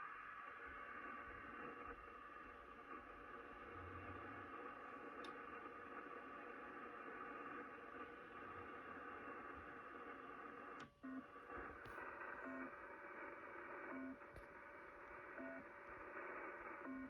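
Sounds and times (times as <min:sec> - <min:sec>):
shortwave radio hiss: 0:00.0 - 0:17.0.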